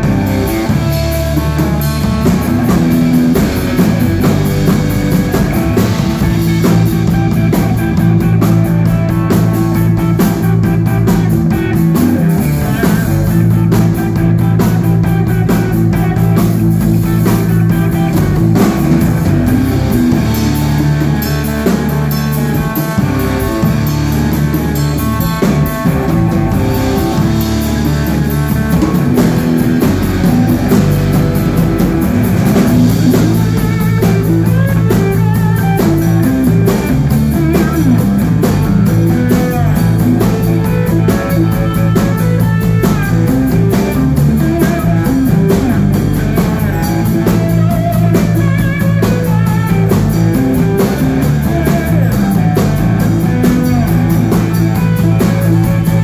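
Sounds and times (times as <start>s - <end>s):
drum kit: 0.0s - 56.0s
electric bass: 0.0s - 56.0s
electric guitar lead: 0.0s - 56.0s.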